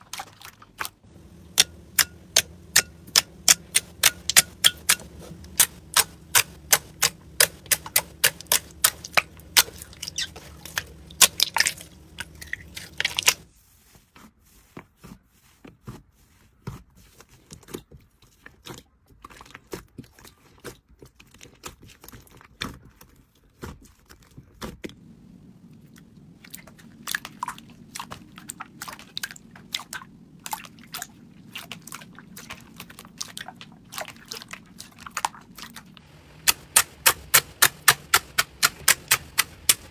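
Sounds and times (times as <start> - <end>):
slime squishing with popping: 0.0 - 13.5, 17.6 - 39.9.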